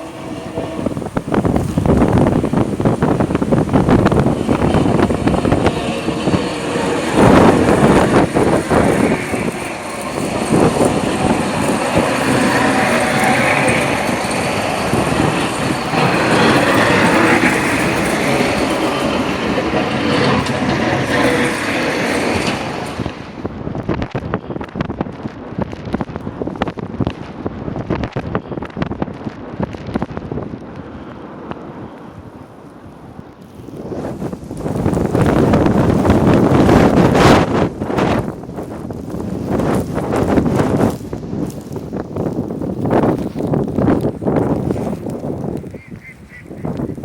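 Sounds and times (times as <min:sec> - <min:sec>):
wind gusting on microphone: 0:00.0 - 0:47.0.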